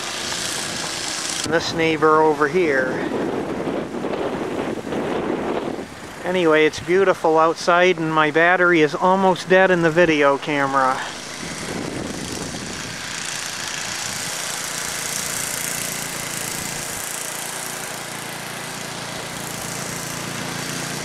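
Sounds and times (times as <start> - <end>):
snow blower engine running: 0.0 - 21.0.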